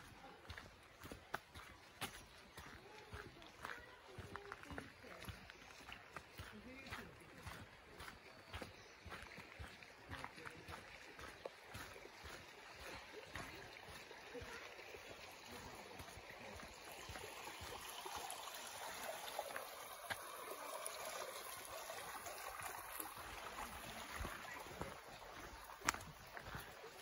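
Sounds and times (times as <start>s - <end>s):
stream flowing over rocks: 0.0s - 27.0s.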